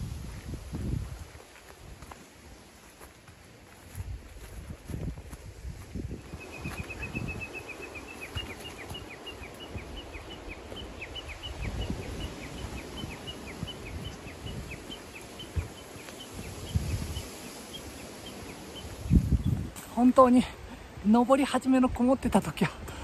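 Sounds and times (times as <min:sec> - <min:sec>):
footsteps on dirt trail: 0:00.0 - 0:11.8, 0:12.5 - 0:21.1.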